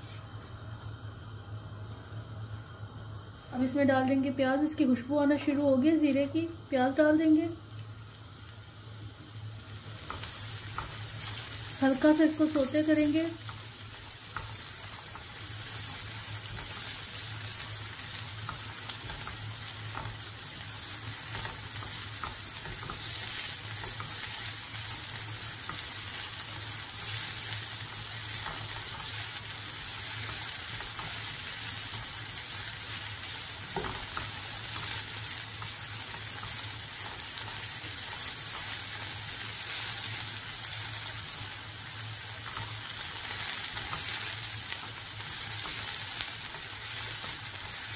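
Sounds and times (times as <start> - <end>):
food sizzling in oil: 2.6 - 47.9.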